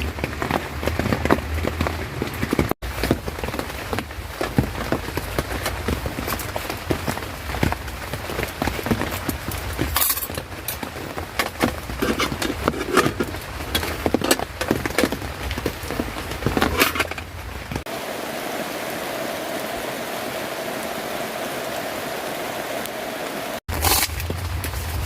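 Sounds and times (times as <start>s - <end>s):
rain taps near microphone: 0.0s - 25.0s
steady hiss of rain: 0.0s - 25.0s.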